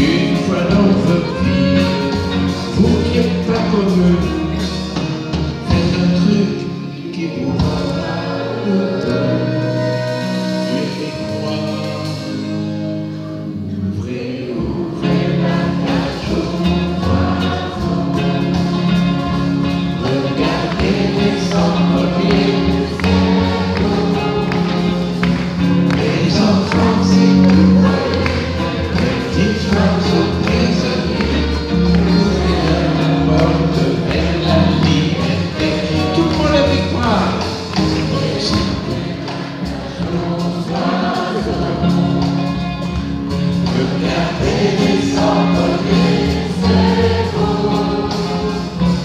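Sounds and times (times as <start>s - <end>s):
crowd singing along: 0.0s - 49.0s
live band playing: 0.0s - 49.0s.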